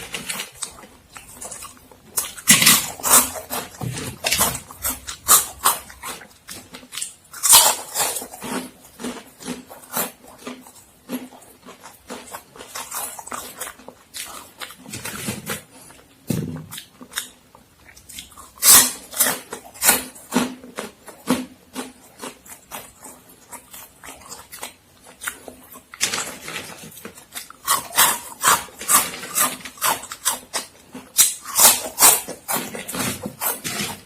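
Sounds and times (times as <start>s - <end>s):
crunching corn snacks: 0.0s - 34.0s.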